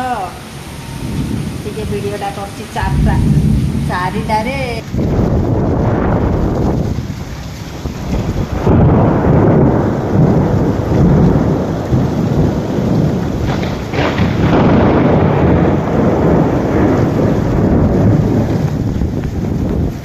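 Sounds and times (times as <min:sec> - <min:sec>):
heavy rain: 0:00.0 - 0:20.0
wind buffeting microphone: 0:00.0 - 0:20.0.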